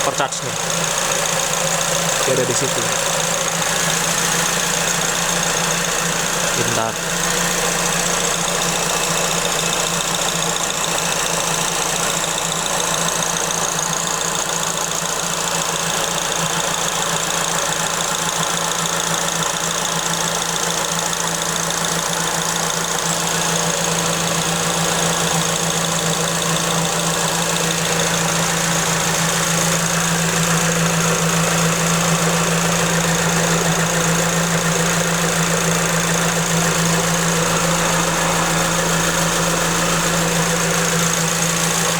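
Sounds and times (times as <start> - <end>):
car engine idling: 0.0 - 41.9
high-pitched supercharger whine: 0.0 - 41.9.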